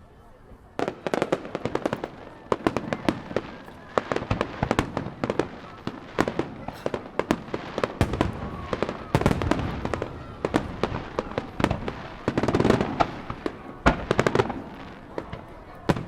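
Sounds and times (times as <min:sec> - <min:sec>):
fireworks bangs: 0:00.8 - 0:16.0
fireworks crackling: 0:00.8 - 0:16.0.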